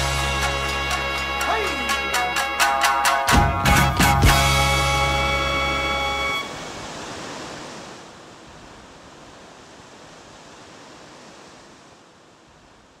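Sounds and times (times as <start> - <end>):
ocean surf on beach: 0.6 - 3.4, 4.2 - 13.0.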